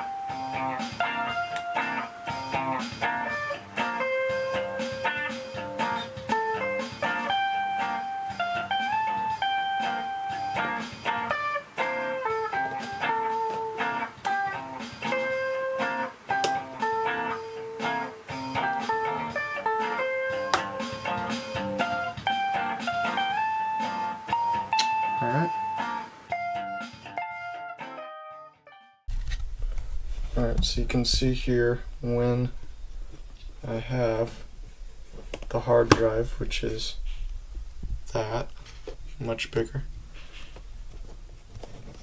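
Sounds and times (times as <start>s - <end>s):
blues guitar melody: 0.0s - 42.0s.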